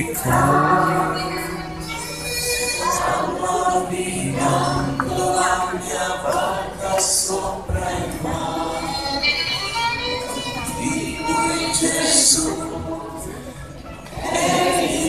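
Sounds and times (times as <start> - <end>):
crowd singing along with music: 0.0 - 15.0.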